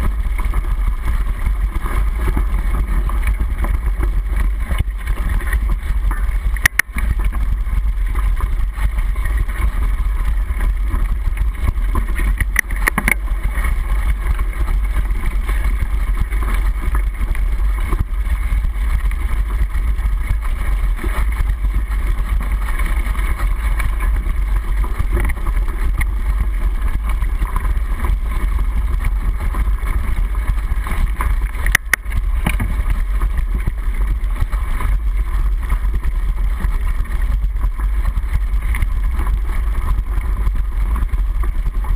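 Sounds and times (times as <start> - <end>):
muffled bike tyre rumble: 0.0 - 41.9.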